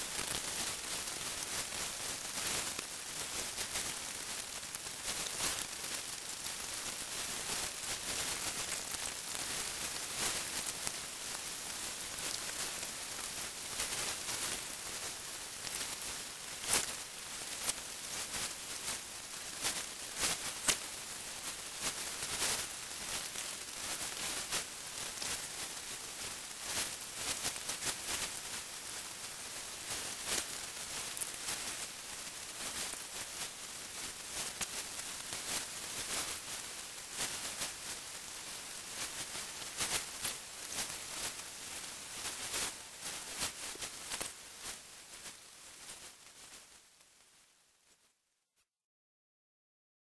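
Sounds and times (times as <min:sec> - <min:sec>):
steady high hiss with crackles: 0:00.0 - 0:48.6.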